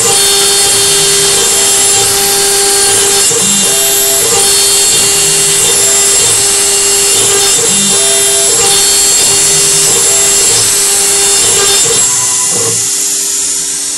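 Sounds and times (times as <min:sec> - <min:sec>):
end mill cutting metal: 0:00.0 - 0:13.9
router spindle whining: 0:00.0 - 0:13.9.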